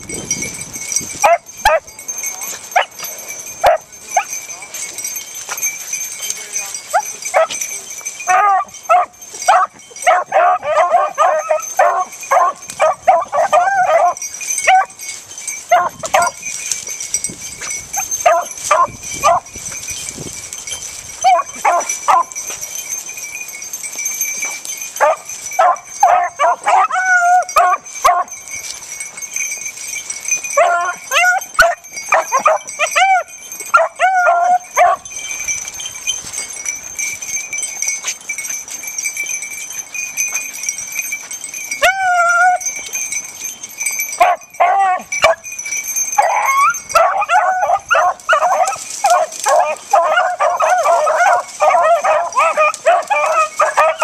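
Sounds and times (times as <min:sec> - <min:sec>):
dogs yipping and baying: 0:00.8 - 0:02.0, 0:02.6 - 0:19.9, 0:21.1 - 0:23.0, 0:23.6 - 0:54.0.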